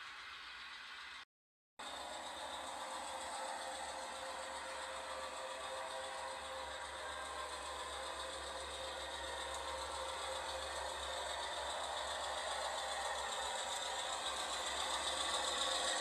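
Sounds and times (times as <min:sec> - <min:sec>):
train running and rattling: 0:00.0 - 0:01.2, 0:01.8 - 0:16.0.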